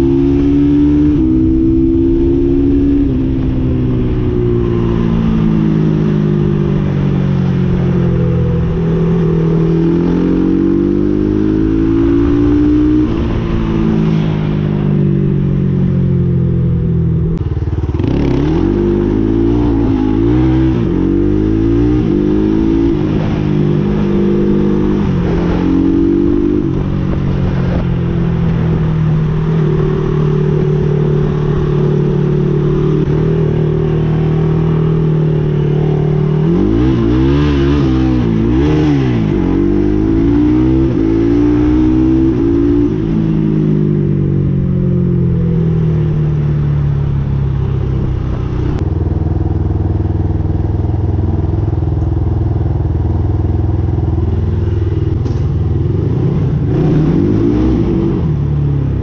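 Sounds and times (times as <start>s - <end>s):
quad engine revving while riding: 0.0s - 13.9s, 17.4s - 52.3s, 53.0s - 59.0s.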